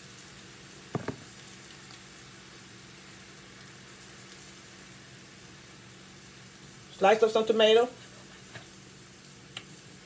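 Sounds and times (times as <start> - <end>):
food frying in a pan: 0.0 - 10.0.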